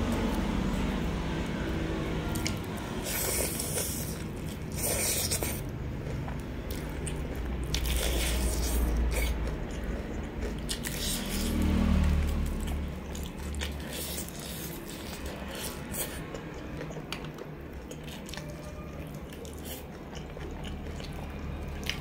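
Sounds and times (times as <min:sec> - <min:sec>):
wet chewing: 0:02.2 - 0:22.0.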